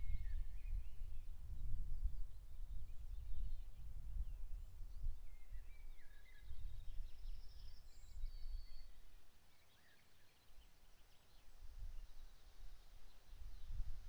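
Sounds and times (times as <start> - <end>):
wind rumbling on microphone: 0.0 - 9.1, 11.6 - 14.0
songbirds singing: 0.0 - 14.0.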